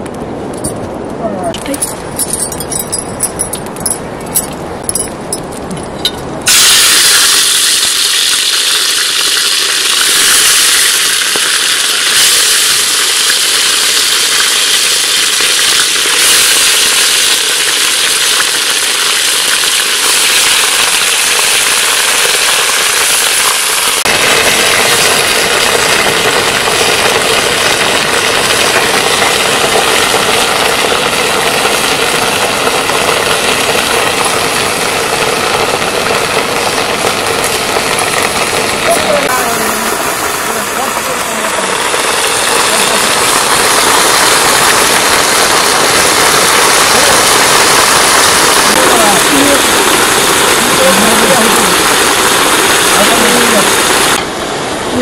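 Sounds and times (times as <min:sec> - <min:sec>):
meat sizzling in hot oil: 0:06.5 - 0:54.2.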